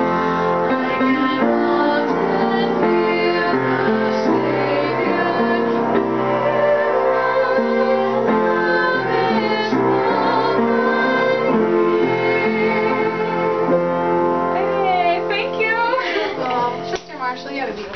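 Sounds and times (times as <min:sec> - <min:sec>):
piano accompaniment: 0:00.0 - 0:17.9.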